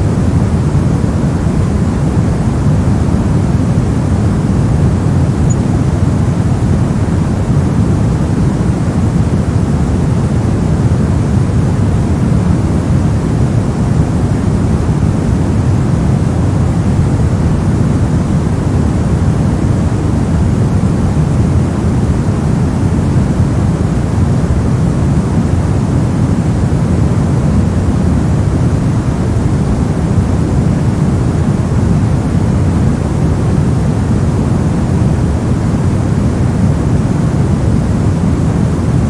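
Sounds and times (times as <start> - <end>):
deep white noise rush: 0.0 - 39.0.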